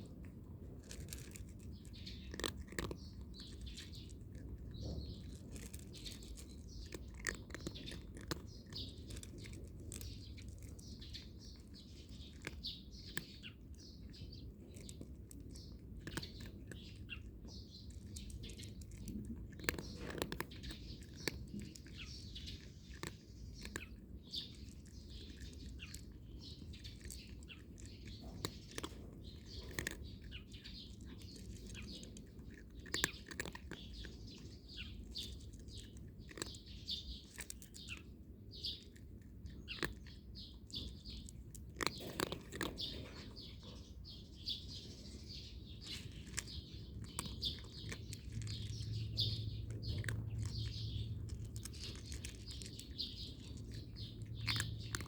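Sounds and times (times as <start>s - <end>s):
cat crunching dry kibble: 0.0s - 55.0s
small birds chirping: 0.0s - 55.0s.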